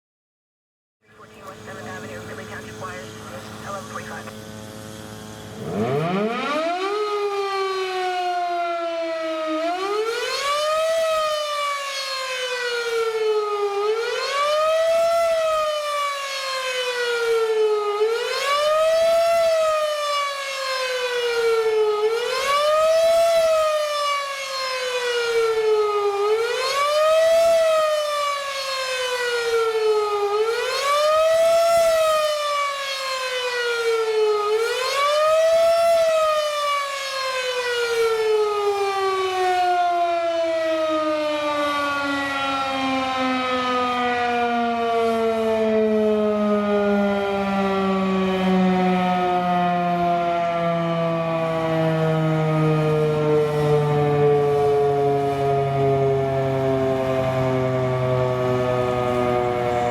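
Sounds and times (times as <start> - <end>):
fire station siren wailing: 1.0 - 59.9.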